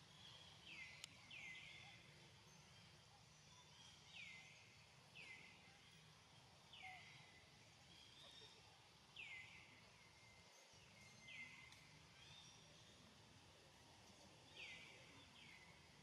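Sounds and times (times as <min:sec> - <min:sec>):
faint forest ambience: 0:00.0 - 0:16.0.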